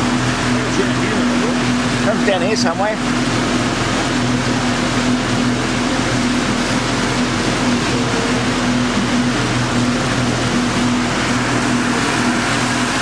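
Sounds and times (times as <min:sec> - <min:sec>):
motorboat engine humming: 0:00.0 - 0:13.0
wind and water rushing: 0:00.0 - 0:13.0.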